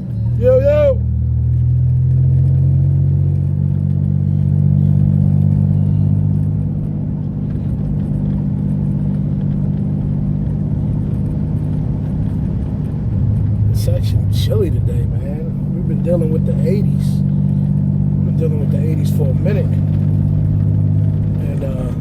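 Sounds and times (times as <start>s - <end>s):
car engine with throaty exhaust: 0.0s - 22.0s.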